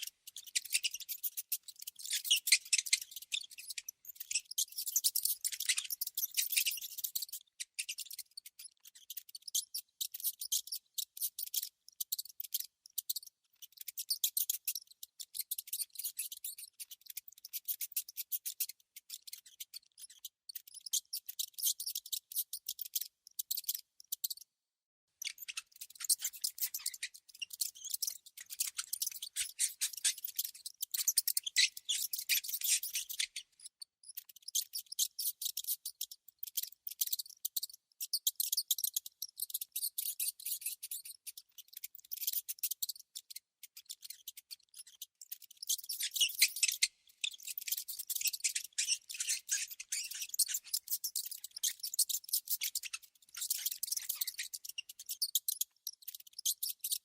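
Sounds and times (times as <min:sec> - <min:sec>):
rodents chattering: 0:00.0 - 0:24.4, 0:25.2 - 0:57.0.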